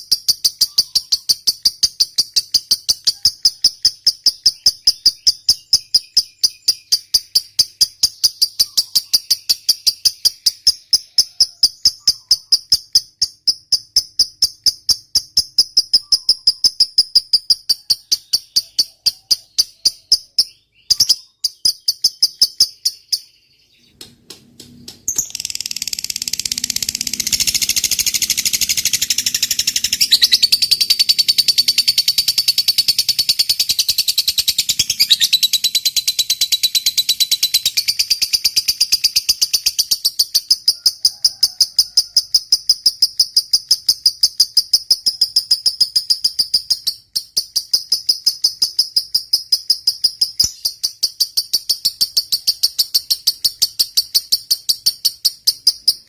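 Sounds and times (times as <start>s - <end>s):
lovebird chattering: 0.0s - 24.0s, 25.0s - 41.8s, 42.4s - 56.0s.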